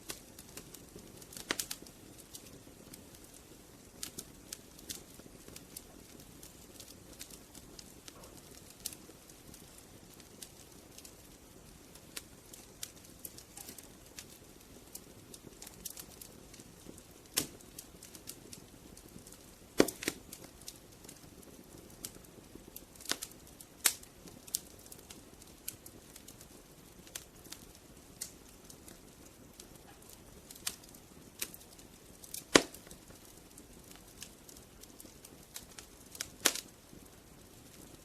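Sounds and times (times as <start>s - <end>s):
low hiss of burning: 0.0s - 38.0s
wood fire crackling: 0.0s - 38.0s.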